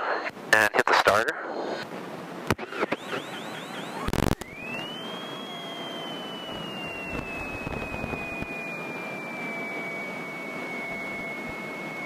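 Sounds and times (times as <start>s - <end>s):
high whine: 0.0s - 12.0s.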